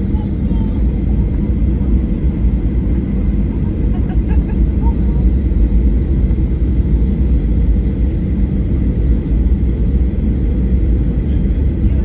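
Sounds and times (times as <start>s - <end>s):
jet airliner engines roaring: 0.0s - 12.0s.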